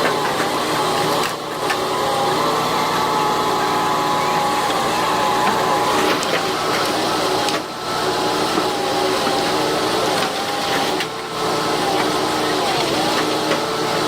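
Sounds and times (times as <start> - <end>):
engine running at high revs: 0.0 - 14.0.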